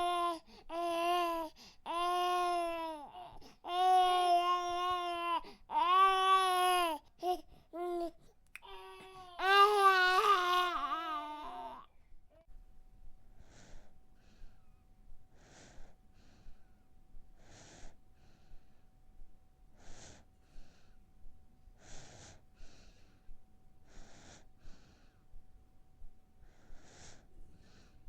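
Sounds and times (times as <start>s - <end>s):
baby breathing softly: 0.0s - 12.5s, 13.3s - 19.0s, 19.7s - 21.0s, 21.6s - 25.4s, 26.4s - 28.0s
faint steady hum: 0.0s - 28.0s.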